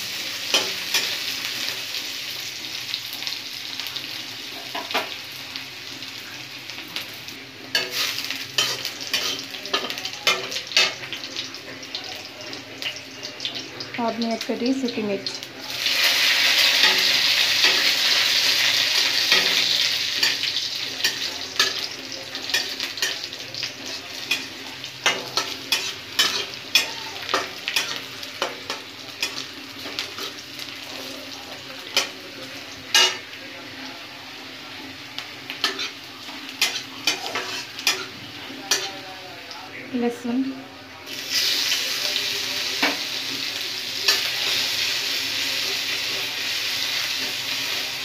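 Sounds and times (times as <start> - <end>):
chillies and onion sizzling in oil: 0.0 - 48.0.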